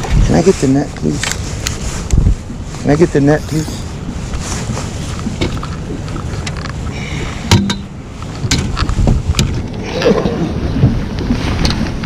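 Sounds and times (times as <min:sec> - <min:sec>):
knocks and clatters on boat: 0:00.0 - 0:12.0
water noise: 0:00.0 - 0:12.0
wind: 0:00.0 - 0:12.0.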